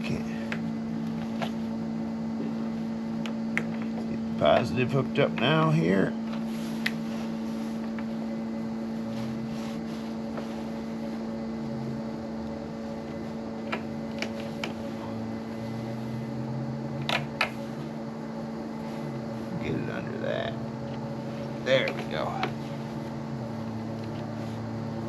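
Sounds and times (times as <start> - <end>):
fan hum: 0.0 - 25.0.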